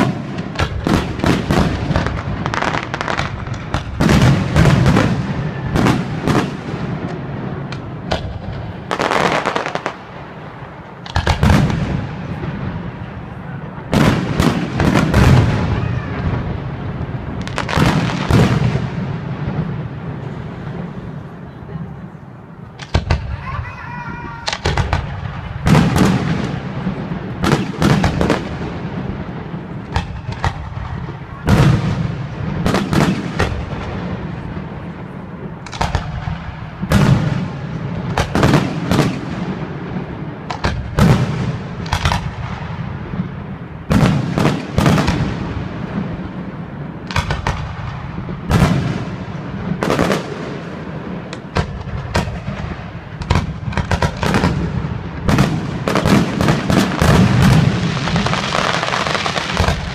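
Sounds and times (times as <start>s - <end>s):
fireworks rumble and crackle: 0.0s - 59.9s.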